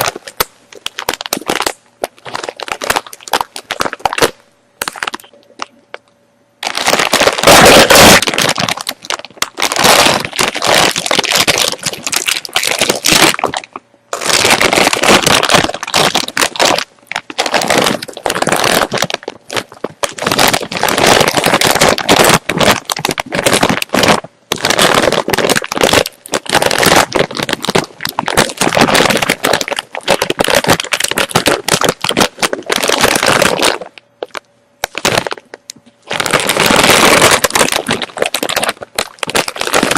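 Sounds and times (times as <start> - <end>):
chips being chewed crunchily: 0.0 - 5.8, 6.6 - 39.9.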